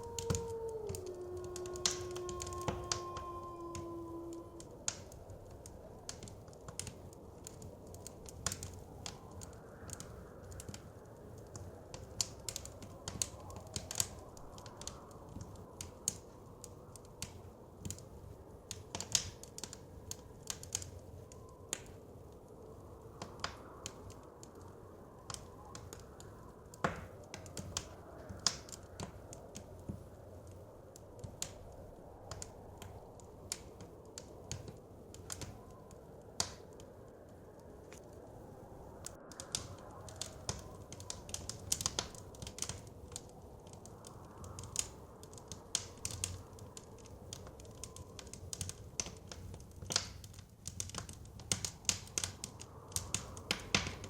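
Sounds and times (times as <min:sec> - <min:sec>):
soft wind rushing: 0:00.0 - 0:49.6
wood fire crackling and popping: 0:00.0 - 0:54.0.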